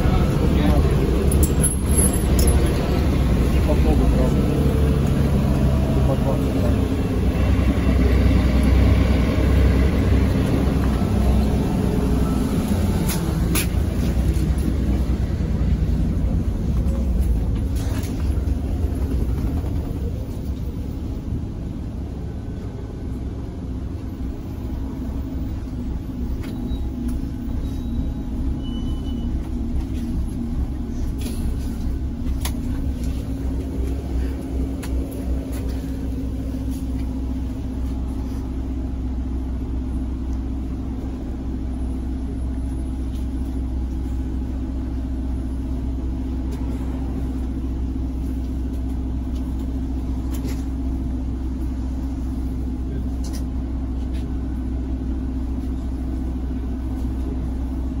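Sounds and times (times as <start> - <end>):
bus engine and road drone: 0.0 - 58.0.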